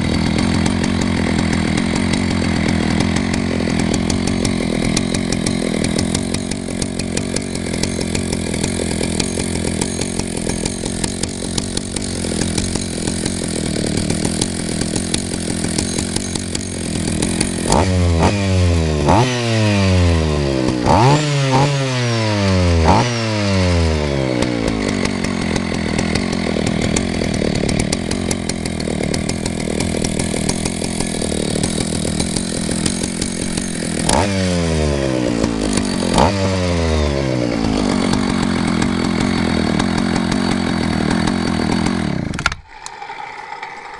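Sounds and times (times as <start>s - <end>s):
chainsaw idling and revving: 0.0s - 43.9s.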